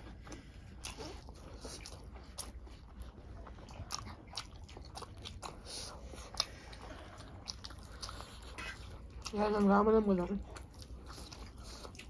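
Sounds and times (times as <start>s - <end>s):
people chewing and crunching food: 0.0s - 12.0s.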